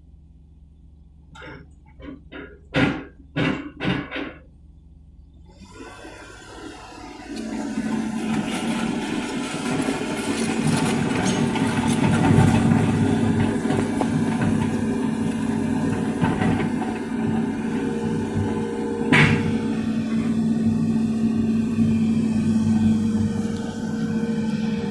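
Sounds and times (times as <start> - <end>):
excavator diesel engine humming: 0.0 - 24.9.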